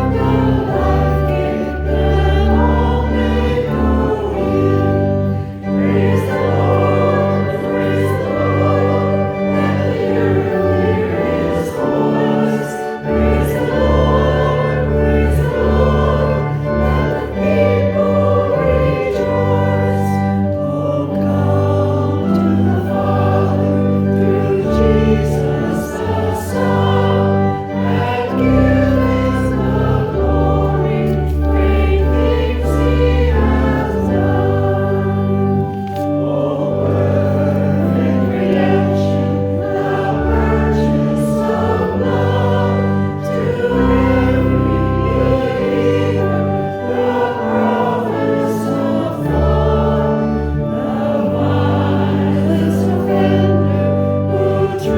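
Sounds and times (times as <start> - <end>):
choir singing a hymn: 0.0 - 54.9
instrumental accompaniment: 0.0 - 54.9.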